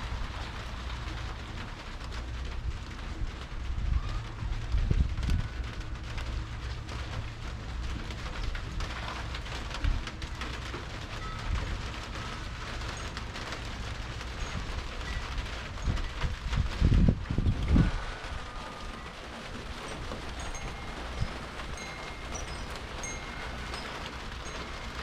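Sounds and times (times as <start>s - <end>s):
low rumble: 0.0s - 25.0s
rain pattering on surfaces: 0.0s - 25.0s.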